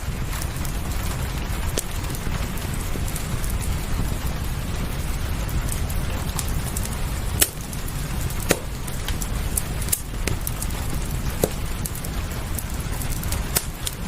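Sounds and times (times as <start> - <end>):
fireplace crackling and popping: 0.0 - 14.0
low rumble: 0.0 - 14.0
steady rain: 0.0 - 14.0.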